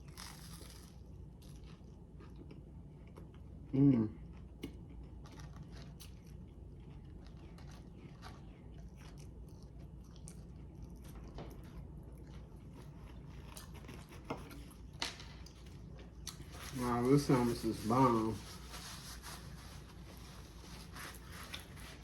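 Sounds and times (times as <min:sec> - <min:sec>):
chewing a sandwich: 0:00.0 - 0:17.3, 0:18.5 - 0:22.0.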